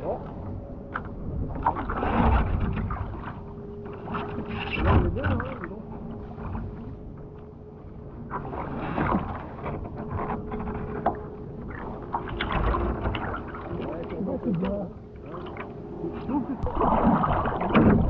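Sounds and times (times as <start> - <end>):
water splashing around kayak: 0.0 - 18.0.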